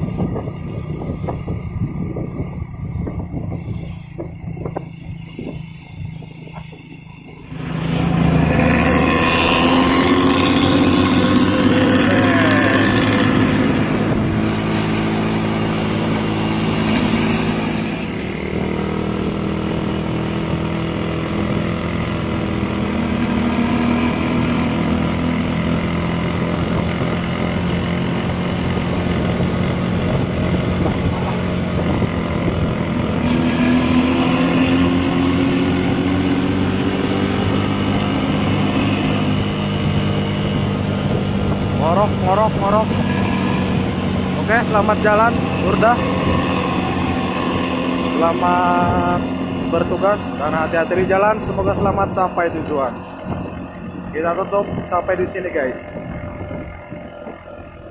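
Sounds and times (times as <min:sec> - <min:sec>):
diesel bus engine rumbling: 0:00.0 - 0:57.9.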